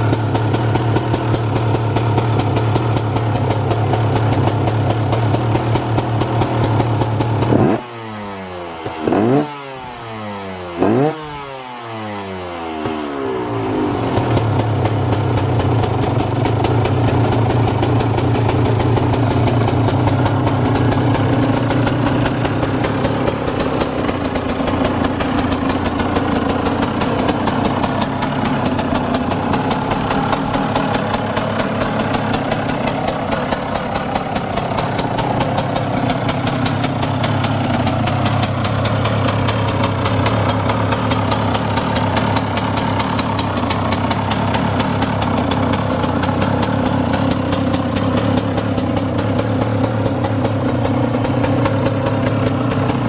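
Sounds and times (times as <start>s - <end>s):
two-stroke engine idling: 0.0s - 53.0s.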